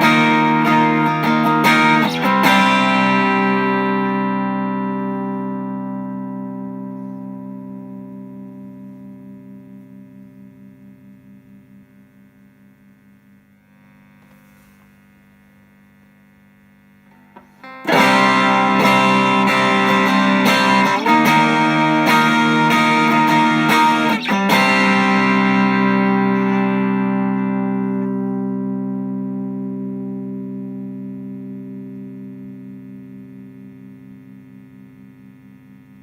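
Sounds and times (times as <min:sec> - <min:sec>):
electric guitar chord ringing: 0:00.0 - 0:11.8, 0:17.1 - 0:34.7
overdriven guitar chords strummed: 0:00.0 - 0:12.1, 0:17.1 - 0:35.8.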